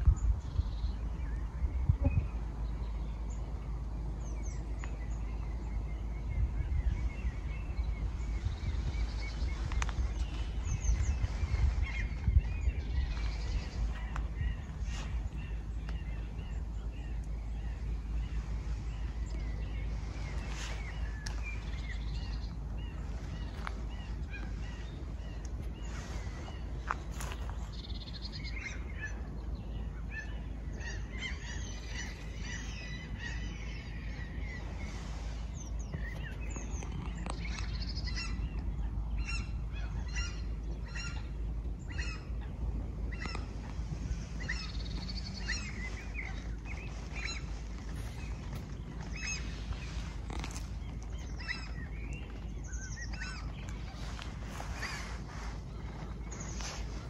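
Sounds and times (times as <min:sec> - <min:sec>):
steady low rumble: 0:00.0 - 0:57.0
wild birds chirping: 0:00.0 - 0:57.0.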